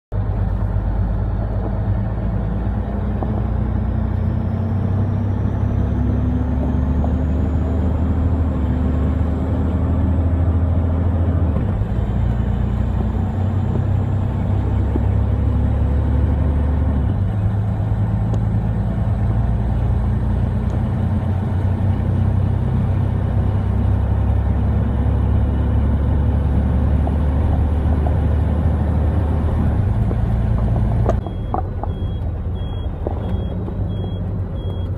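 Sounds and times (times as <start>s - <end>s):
truck engine drone in cab: 0.1s - 34.9s.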